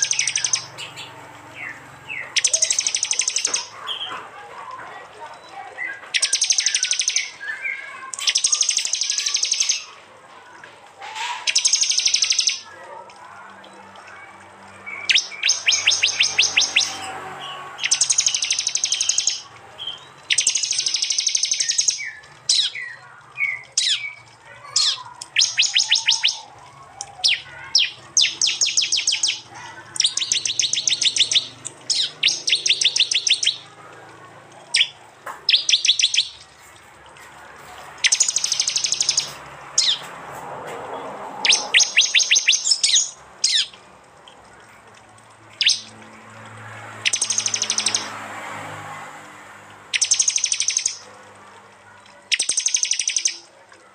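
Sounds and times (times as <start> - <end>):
bird ticking trills: 0.0 - 10.0, 11.1 - 36.8, 38.0 - 40.0, 41.4 - 48.8, 49.8 - 53.9.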